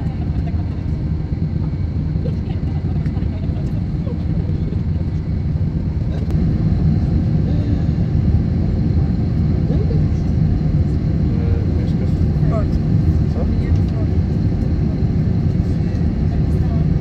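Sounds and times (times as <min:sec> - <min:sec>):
faint passenger voices: 0:00.0 - 0:17.0
low rumble inside aircraft cabin: 0:00.0 - 0:17.0.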